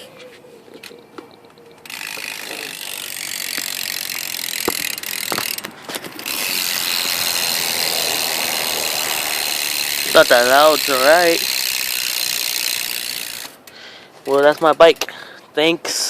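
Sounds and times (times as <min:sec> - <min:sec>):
bike hub freewheeling clicks: 0:01.8 - 0:15.2.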